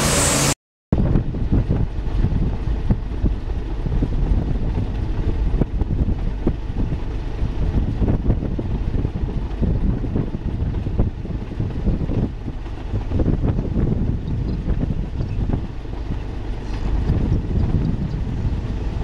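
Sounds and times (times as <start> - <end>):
combine harvester rumbling: 0.0 - 19.0
wind buffeting microphone: 0.9 - 19.0.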